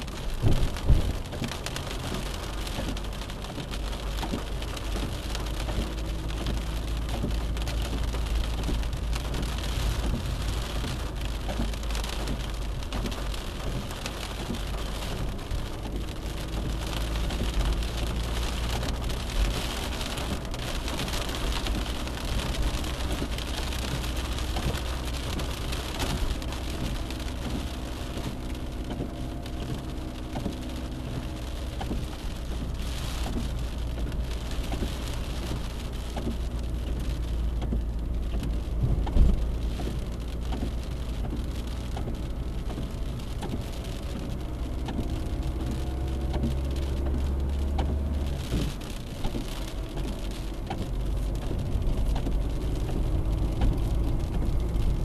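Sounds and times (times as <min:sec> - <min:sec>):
car road noise from cabin: 0:00.0 - 0:55.0.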